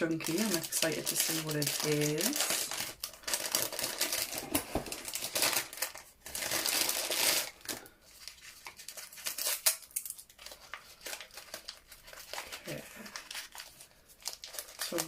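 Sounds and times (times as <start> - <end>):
gift bag crinkling: 0.0 - 15.0.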